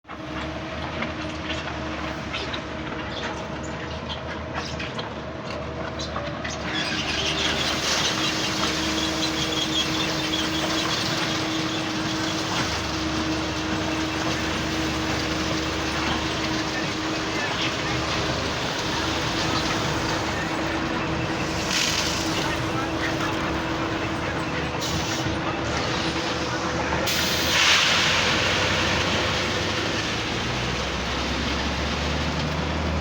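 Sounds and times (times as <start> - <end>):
machinery motor hum: 0.1 - 33.0.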